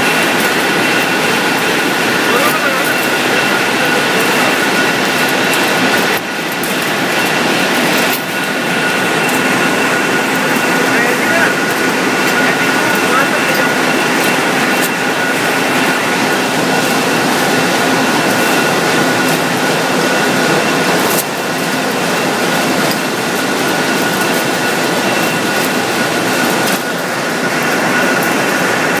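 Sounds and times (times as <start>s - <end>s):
high mechanical whine: 0.0s - 29.0s
wire drawing machine running: 0.0s - 29.0s.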